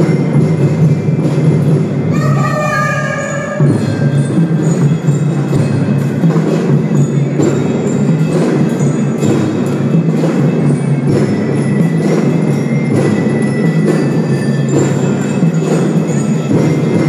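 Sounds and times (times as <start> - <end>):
bright bell-like notes: 0.0 - 17.0
drum band playing: 0.0 - 17.0
steady drum beat: 0.0 - 17.0.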